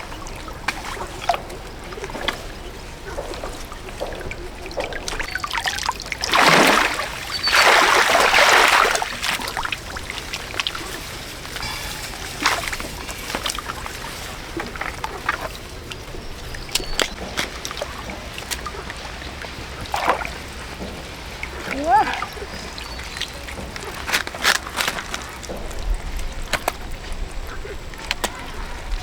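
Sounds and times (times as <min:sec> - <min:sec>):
water splashing: 0:00.0 - 0:29.0.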